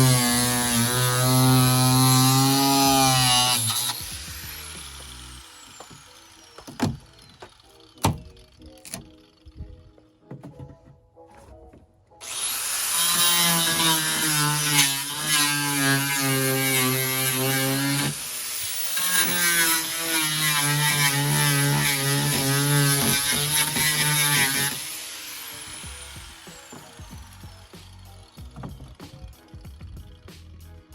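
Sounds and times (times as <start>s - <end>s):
power tool cutting wood: 0.0s - 9.6s, 12.2s - 29.3s.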